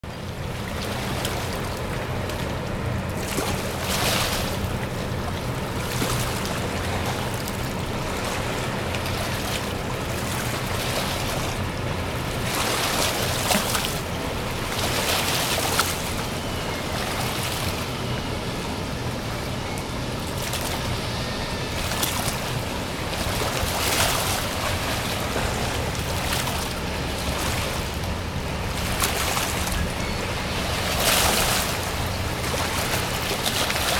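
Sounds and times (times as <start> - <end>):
rushing water: 0.0 - 33.9
ship machinery humming: 0.0 - 33.9
wind: 0.0 - 33.9.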